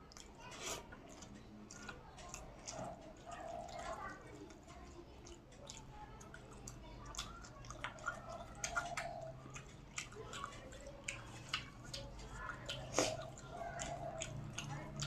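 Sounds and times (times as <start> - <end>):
wet chewing with mouth clicks: 0.0 - 15.0.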